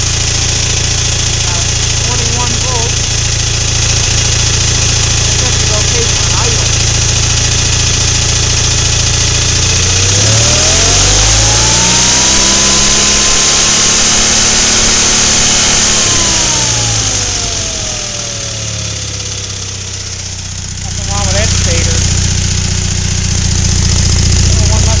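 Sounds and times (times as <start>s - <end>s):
twin engine revving: 0.0s - 25.0s.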